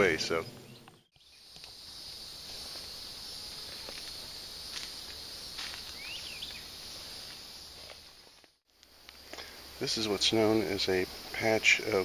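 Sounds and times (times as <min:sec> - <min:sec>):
high-pitched insect drone: 0:01.2 - 0:12.0.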